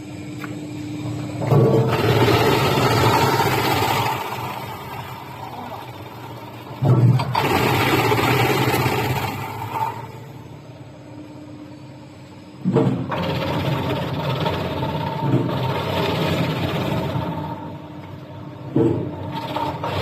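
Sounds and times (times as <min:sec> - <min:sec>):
crushing machine humming: 0:00.0 - 0:11.4, 0:12.5 - 0:20.0.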